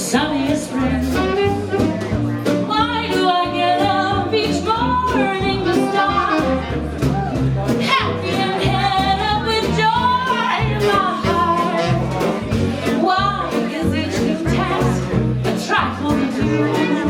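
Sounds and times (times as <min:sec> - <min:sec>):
woman singing jazz: 0:00.0 - 0:07.0, 0:07.7 - 0:17.0
live band accompaniment: 0:00.0 - 0:17.0
walking bass line: 0:00.0 - 0:17.0.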